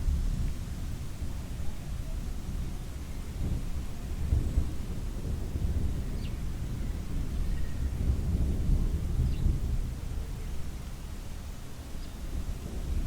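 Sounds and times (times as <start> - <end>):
faint rain hiss: 0.0 - 13.0.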